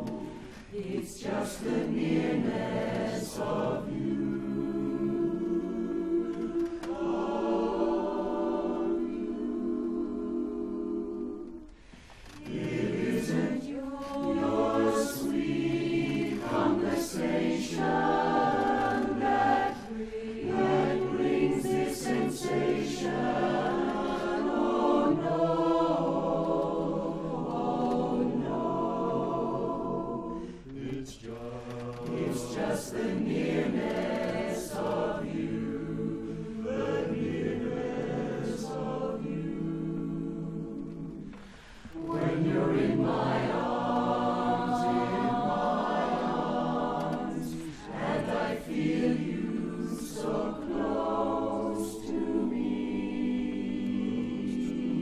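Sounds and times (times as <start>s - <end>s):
chorus singing a cappella: 0.0s - 55.0s.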